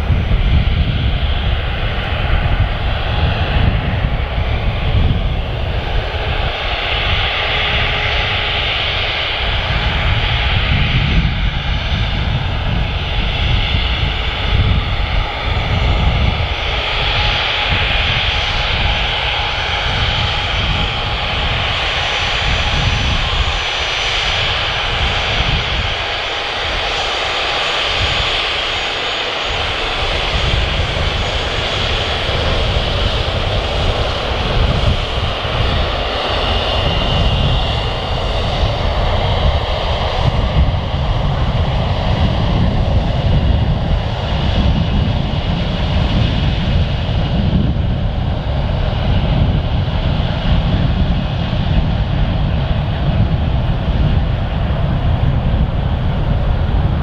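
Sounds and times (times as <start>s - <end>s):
faint high turbine whine: 0.0s - 57.0s
jet taxiing: 0.0s - 57.0s.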